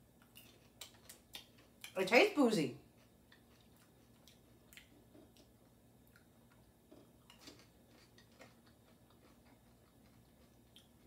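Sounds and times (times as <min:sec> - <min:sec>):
person chewing popcorn: 0:00.0 - 0:02.0, 0:02.8 - 0:11.0.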